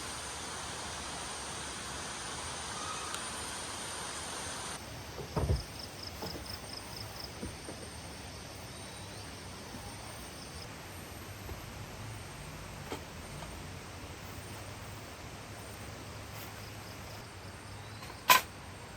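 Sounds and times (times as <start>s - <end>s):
steady outdoor hiss: 0.0s - 18.9s
insect chirping: 2.2s - 3.9s, 4.6s - 18.4s.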